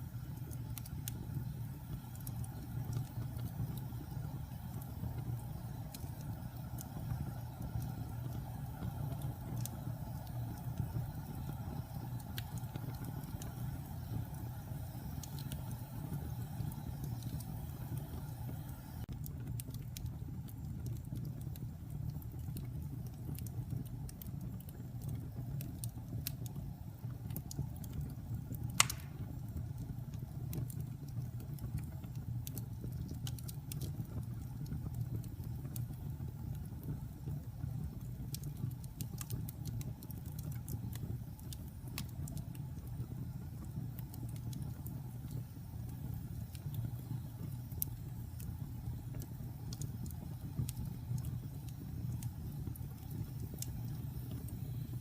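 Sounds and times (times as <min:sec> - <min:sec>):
low rumble of fire: 0:00.0 - 0:55.0
wood fire crackling and popping: 0:00.0 - 0:55.0.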